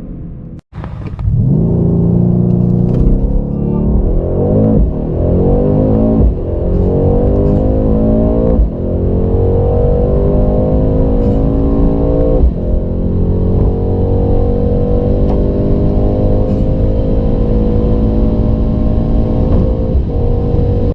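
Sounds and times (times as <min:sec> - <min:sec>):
car engine accelerating: 0:00.0 - 0:20.9.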